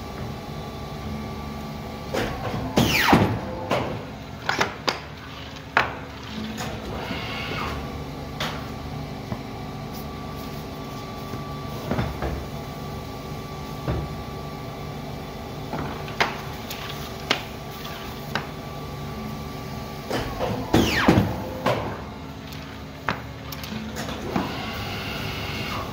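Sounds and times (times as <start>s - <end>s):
paper guillotine cutter humming: 0.0s - 25.9s.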